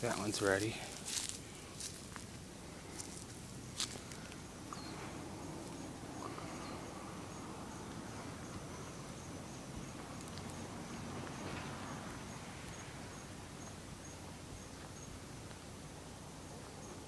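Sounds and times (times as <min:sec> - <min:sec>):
insect chirping: 0:00.0 - 0:17.0
low background noise: 0:00.0 - 0:17.0.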